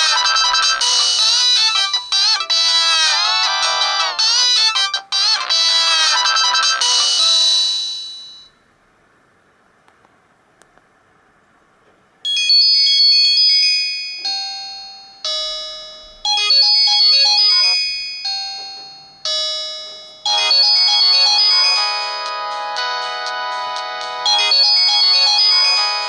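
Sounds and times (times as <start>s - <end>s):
polyphonic ringtone melody: 0.0s - 8.5s, 12.3s - 26.0s.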